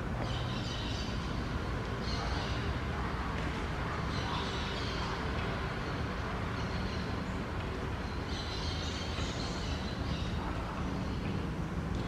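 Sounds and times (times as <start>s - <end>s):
continuous low rumble: 0.0s - 12.0s.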